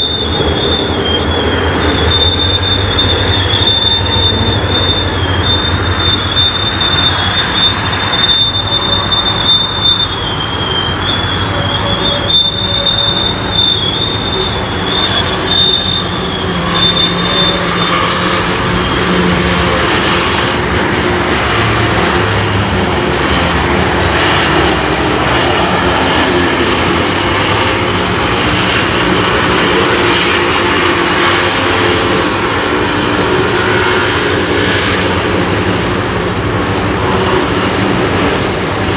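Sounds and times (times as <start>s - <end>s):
railway wheels squealing: 0.0s - 38.9s
rumble of rolling rail equipment: 0.0s - 38.9s.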